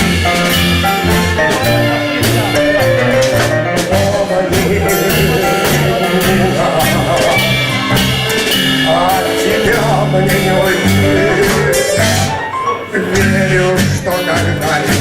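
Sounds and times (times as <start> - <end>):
band playing tango: 0.0 - 15.0.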